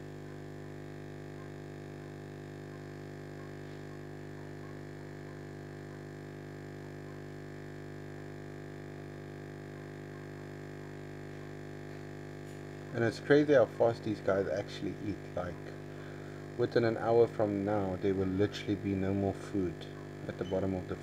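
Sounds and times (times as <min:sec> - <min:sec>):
aquarium air pump humming: 0:00.0 - 0:21.0.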